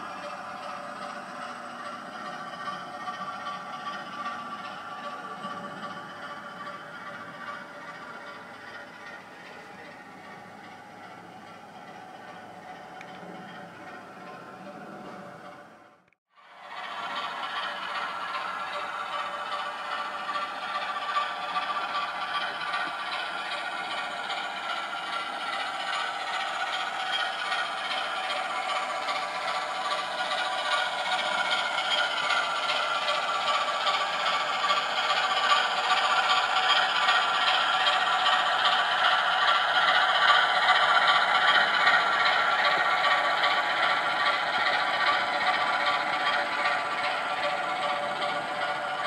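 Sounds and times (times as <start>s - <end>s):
droning motor hum: 0.0s - 49.0s
model train wheels clattering: 0.0s - 49.0s.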